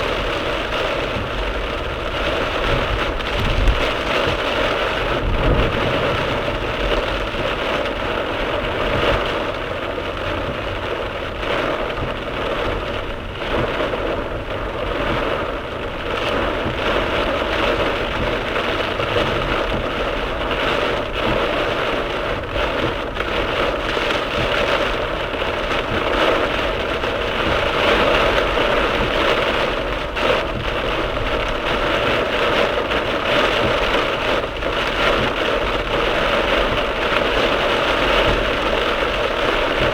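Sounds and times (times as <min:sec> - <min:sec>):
heavy rain on car roof: 0:00.0 - 0:39.9
tyres hissing on wet road: 0:00.0 - 0:39.9.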